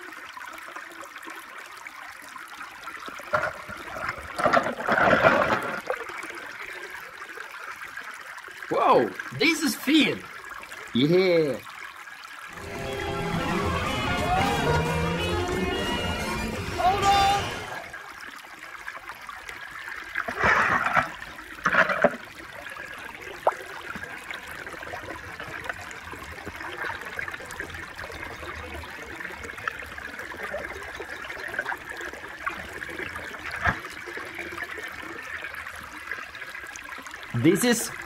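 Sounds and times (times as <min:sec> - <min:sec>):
water sloshing and trickling: 0:00.0 - 0:15.2, 0:17.5 - 0:38.0.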